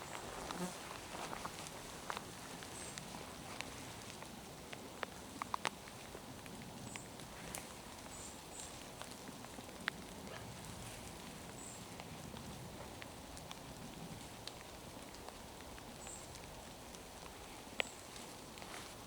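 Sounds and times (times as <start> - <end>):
rain pattering in forest: 0.0 - 19.0.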